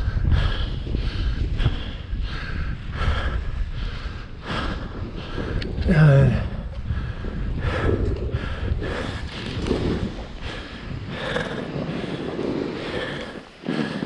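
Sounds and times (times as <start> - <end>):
heavy breathing: 0.0 - 14.0
wind rumble on microphone: 0.0 - 14.0.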